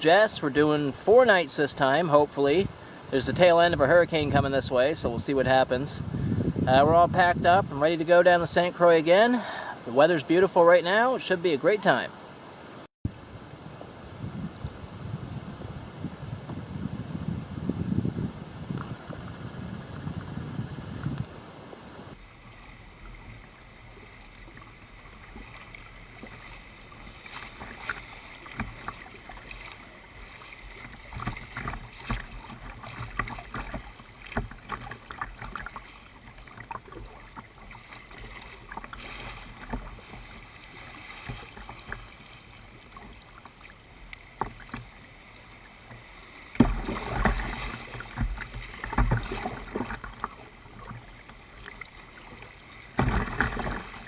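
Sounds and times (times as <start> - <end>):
paddle blades splashing: 0.0 - 54.0.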